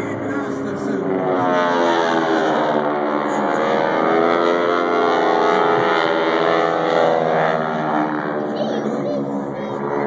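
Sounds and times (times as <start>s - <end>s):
propeller aircraft flying past: 0.0s - 10.0s.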